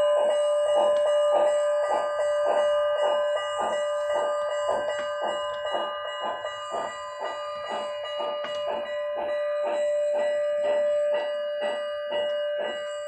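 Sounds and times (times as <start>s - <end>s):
locomotive bell ringing: 0.0s - 13.0s.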